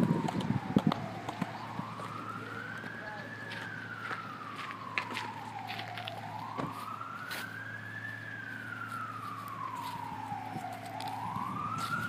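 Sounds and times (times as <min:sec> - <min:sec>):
emergency vehicle siren wailing: 0:00.0 - 0:12.0.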